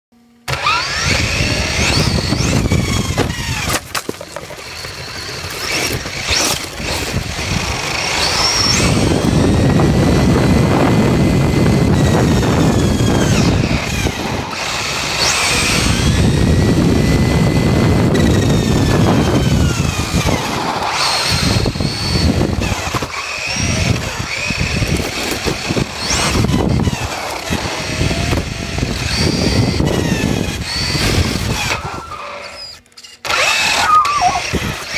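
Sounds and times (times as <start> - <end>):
electric motor whining: 0.2 - 34.9
tyre and wind noise: 0.5 - 34.9.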